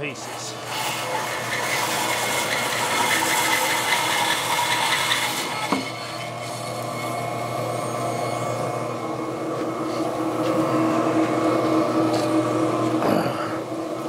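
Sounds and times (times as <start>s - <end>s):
bandsaw cutting log: 0.0s - 14.0s
saw motor hum: 0.0s - 14.0s.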